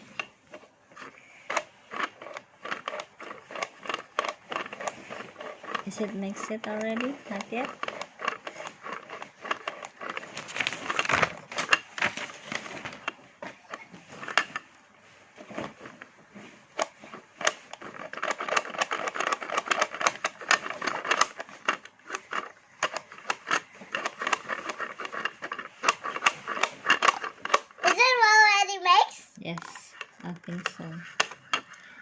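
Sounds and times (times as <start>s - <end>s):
toy blender clicking and rattling: 0.0s - 32.0s.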